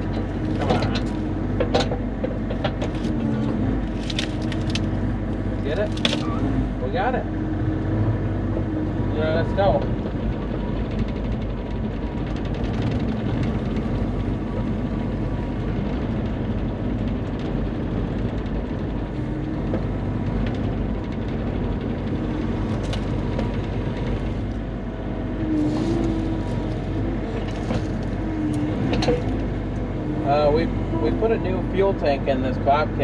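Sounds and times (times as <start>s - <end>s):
diesel excavator engine running: 0.0s - 33.0s.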